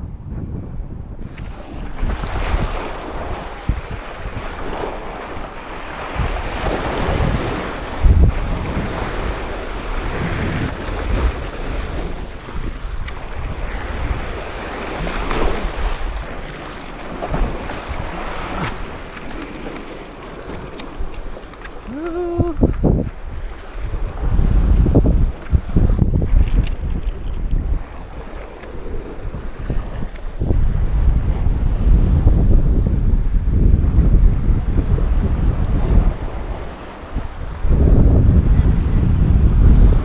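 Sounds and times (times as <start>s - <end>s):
sea waves breaking over boulders: 0.0s - 40.0s
wind buffeting microphone: 0.0s - 40.0s.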